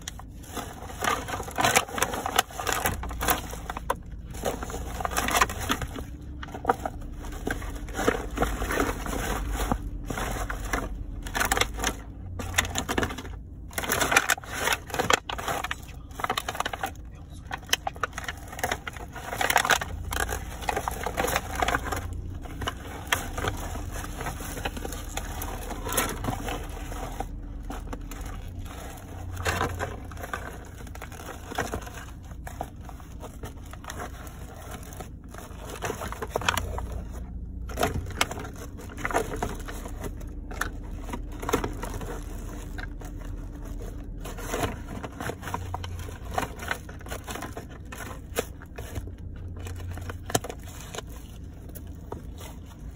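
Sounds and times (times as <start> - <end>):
plastic and cardboard crunching underfoot: 0.0 - 52.9.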